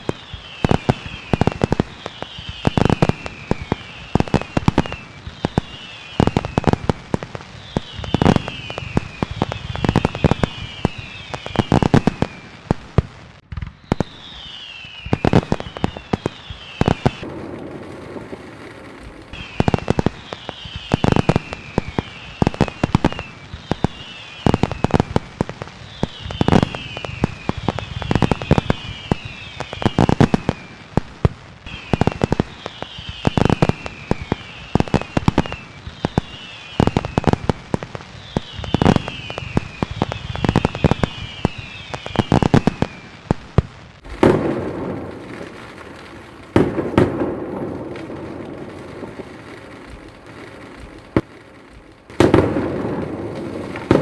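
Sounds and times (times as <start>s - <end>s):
fireworks bangs and crackles: 0.0s - 54.0s
fireworks whistling: 0.0s - 54.0s.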